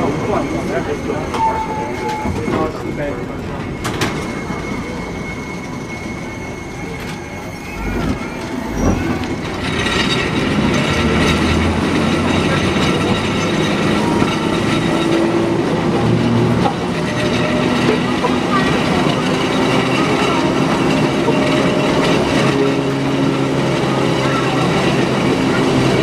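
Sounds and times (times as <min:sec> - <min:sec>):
streetcar wheels rumbling: 0:00.0 - 0:26.0.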